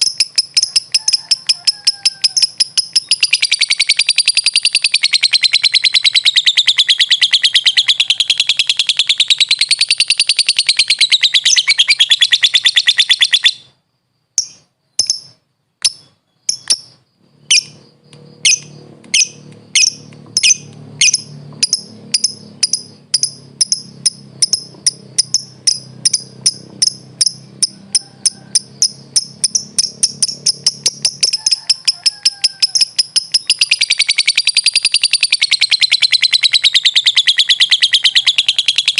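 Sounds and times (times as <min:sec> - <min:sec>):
lovebird chattering trill: 0:00.0 - 0:13.8, 0:14.4 - 0:38.9
sharp bird chirps: 0:00.0 - 0:38.9.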